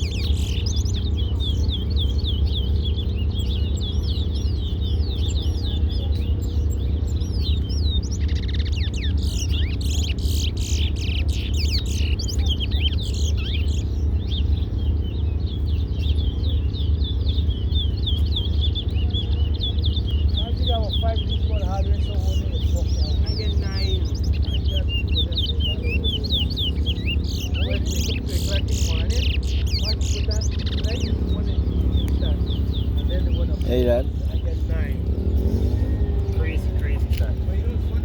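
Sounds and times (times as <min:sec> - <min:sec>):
finches chirping: 0:00.0 - 0:38.0
low hum: 0:00.0 - 0:38.0.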